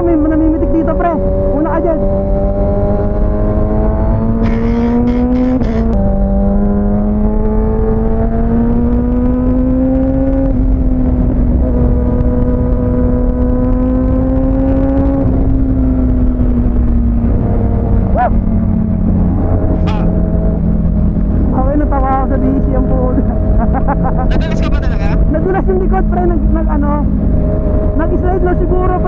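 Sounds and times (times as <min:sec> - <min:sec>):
low wind rumble: 0:00.0 - 0:29.0.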